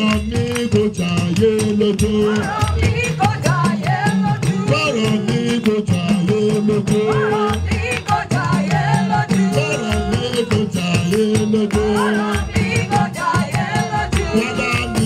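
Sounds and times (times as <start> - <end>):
band with bass line: 0.0 - 15.0
rattling shaker beat: 0.0 - 15.0
voices singing praise music: 0.0 - 15.0.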